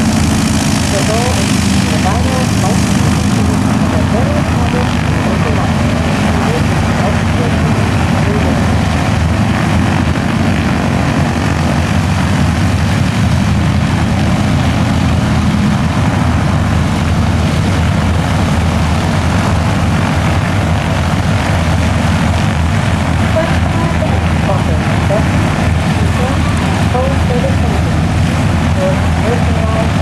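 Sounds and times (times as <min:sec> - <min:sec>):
aircraft radial engine droning: 0:00.0 - 0:30.0.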